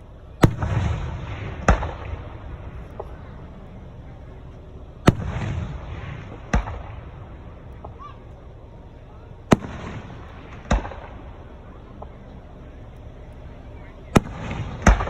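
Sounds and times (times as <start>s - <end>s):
crackling hiss: 0.0s - 15.0s
fireworks booming: 0.0s - 15.0s.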